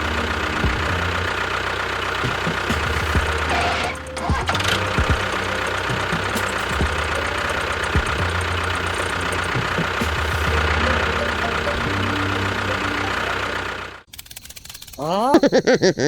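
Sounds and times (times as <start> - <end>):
engine running with low knocking: 0.0 - 14.1.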